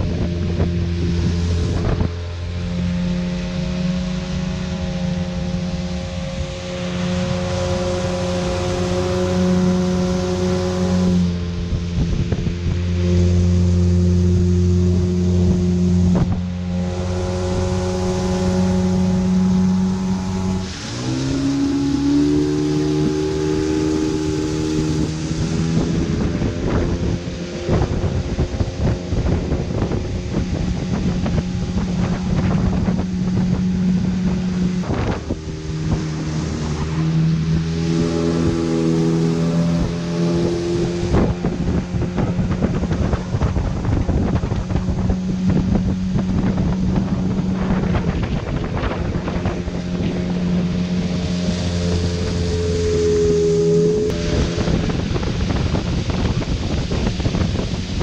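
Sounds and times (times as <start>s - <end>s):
outboard motor humming: 0.0s - 58.0s
water rushing past hull: 0.0s - 58.0s
wind buffeting microphone: 0.0s - 58.0s.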